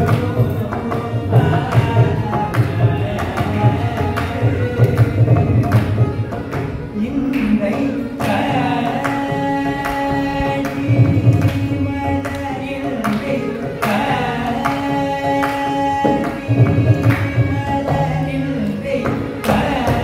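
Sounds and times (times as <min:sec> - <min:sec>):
men singing together: 0:00.0 - 0:05.5, 0:07.8 - 0:20.0.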